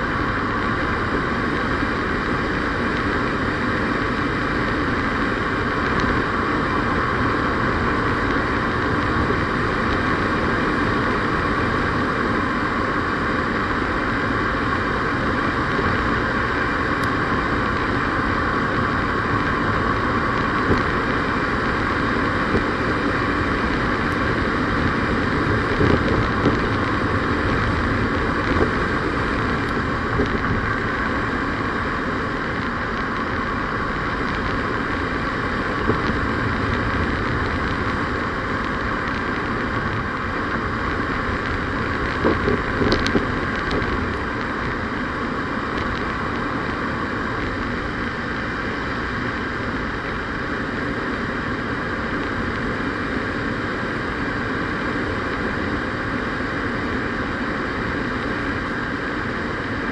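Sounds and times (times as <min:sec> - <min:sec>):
vehicle road and engine noise: 0:00.0 - 0:59.9.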